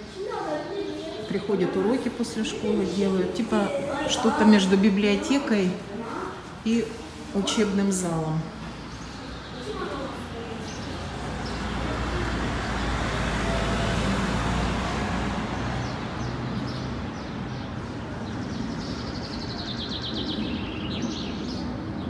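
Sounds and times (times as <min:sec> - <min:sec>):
small birds chirping: 0:00.0 - 0:13.4, 0:15.6 - 0:22.0
car passing: 0:00.0 - 0:19.3.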